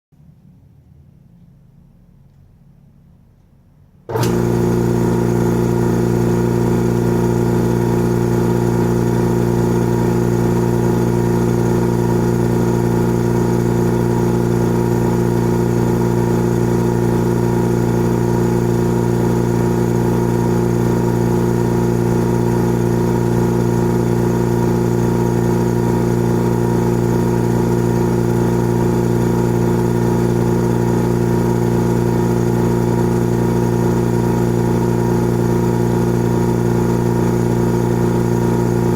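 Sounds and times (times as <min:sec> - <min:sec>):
air compressor humming: 0:04.1 - 0:38.9.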